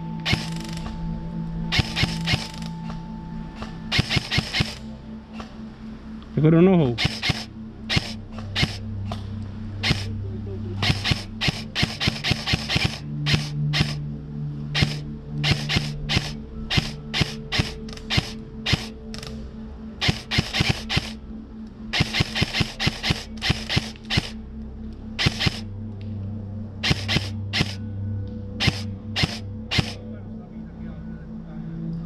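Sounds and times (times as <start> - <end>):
sustained low chords: 0.0 - 32.0.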